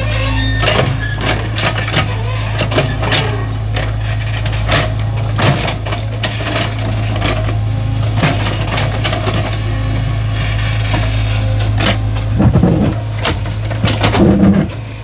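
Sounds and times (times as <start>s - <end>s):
bucket and tracks clanking: 0.0s - 15.0s
excavator diesel engine running: 0.0s - 15.0s.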